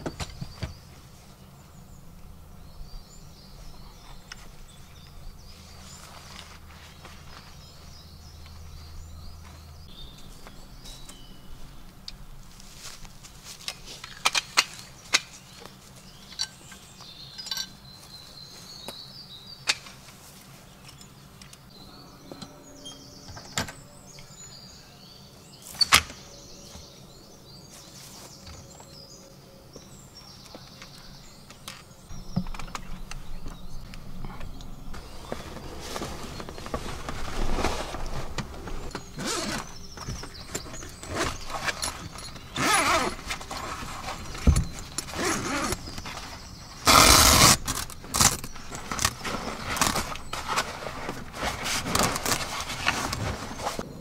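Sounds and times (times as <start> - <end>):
camping gear and ladder clacks: 0.0 - 1.1, 3.4 - 24.4, 29.8 - 53.9
songbirds chirping: 0.0 - 54.0.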